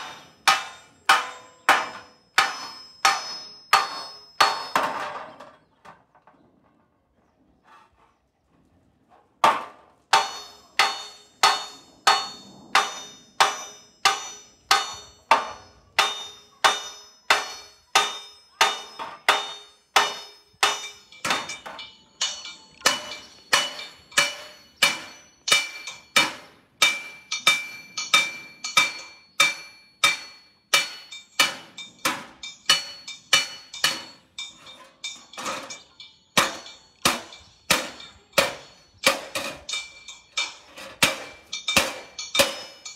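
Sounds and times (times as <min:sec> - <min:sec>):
hammer beating copper sheet: 0:00.0 - 0:05.4, 0:09.4 - 0:42.9.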